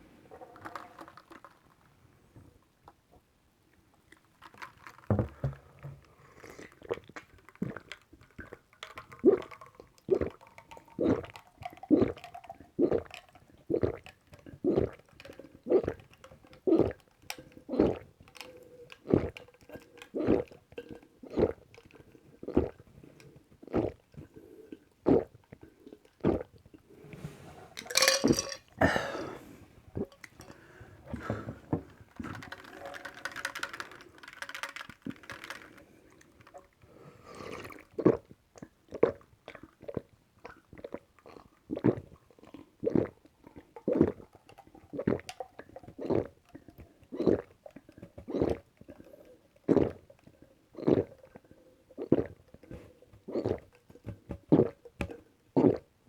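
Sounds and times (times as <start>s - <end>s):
person gulping a drink: 0.3s - 1.8s, 4.4s - 56.0s.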